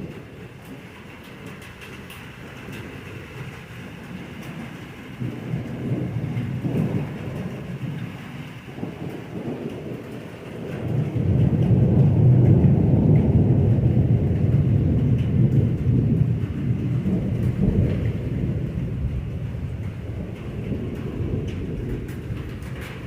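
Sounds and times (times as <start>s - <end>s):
rain falling: 0.0s - 23.0s
thunder rumbling: 0.0s - 23.0s.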